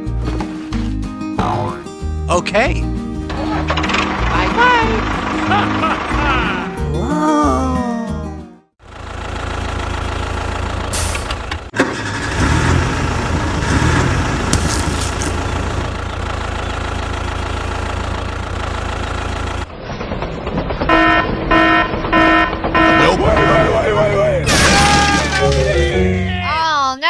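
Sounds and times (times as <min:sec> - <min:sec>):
vehicle engine rumbling: 0:02.9 - 0:07.0, 0:08.8 - 0:26.6.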